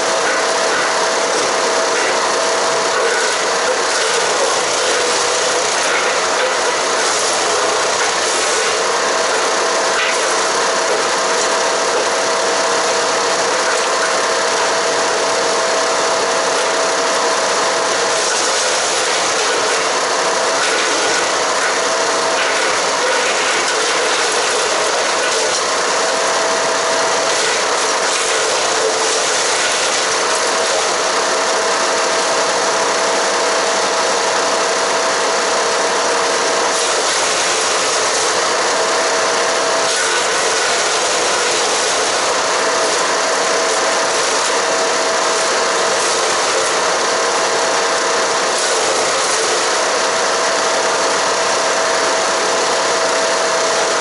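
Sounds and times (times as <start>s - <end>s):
wood chipper grinding branches: 0.0s - 54.0s.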